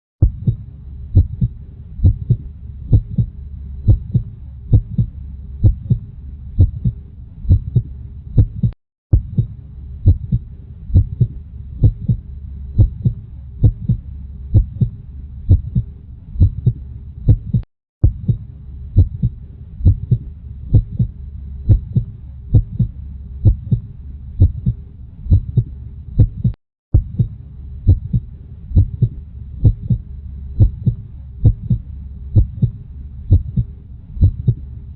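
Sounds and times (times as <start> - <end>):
heartbeat: 0.2 - 34.7
low steady whoosh: 0.2 - 34.9.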